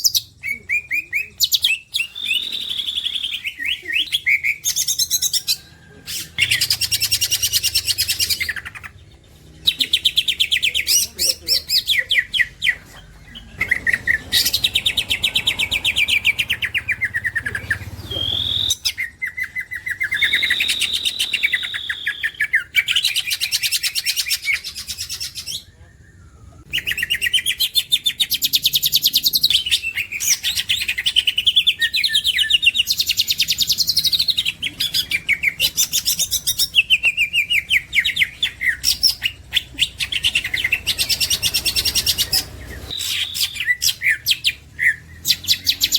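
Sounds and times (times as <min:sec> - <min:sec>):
bird singing rapid trills: 0:00.0 - 0:45.9.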